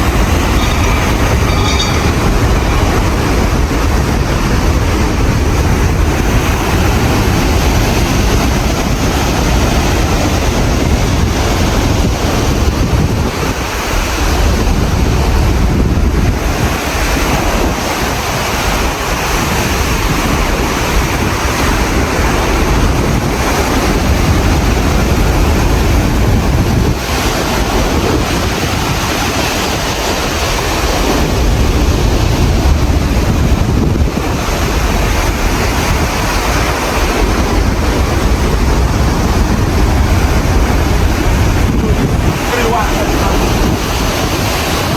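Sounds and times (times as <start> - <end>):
wind blasting across microphone: 0.0 - 44.9.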